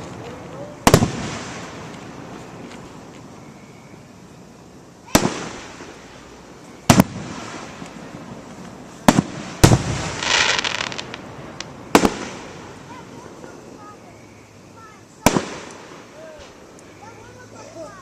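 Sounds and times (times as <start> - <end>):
fireworks booming: 0.0 - 4.1, 5.0 - 14.0, 15.2 - 16.8
fireworks crackling: 0.0 - 18.0.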